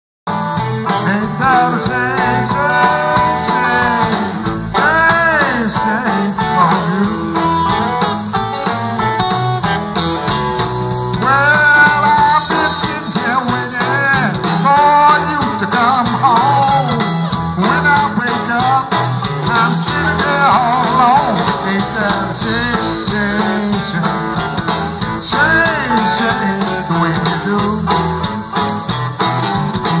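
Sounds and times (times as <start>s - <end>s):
live blues band playing: 0.2s - 30.0s
electric guitar lead bending: 0.3s - 30.0s.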